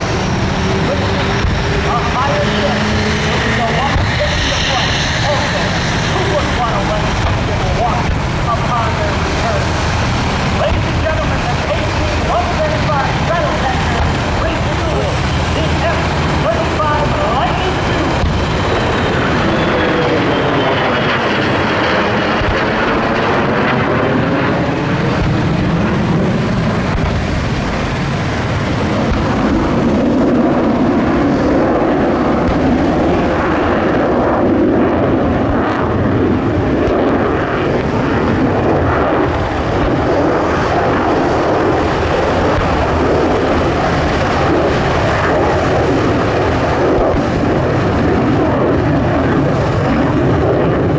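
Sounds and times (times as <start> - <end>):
jet engine roar: 0.0 - 50.9.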